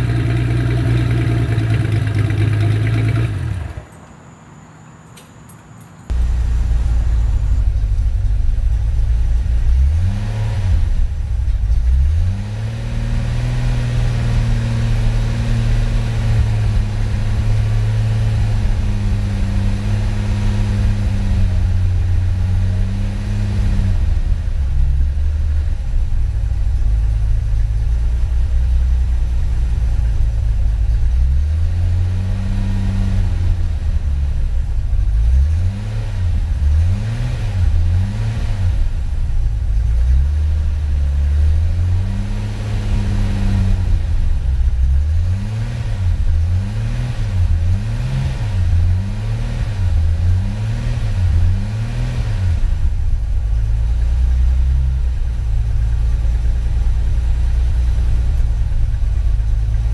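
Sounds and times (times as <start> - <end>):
turbocharged car engine revving: 0.0 - 3.8, 6.1 - 59.9.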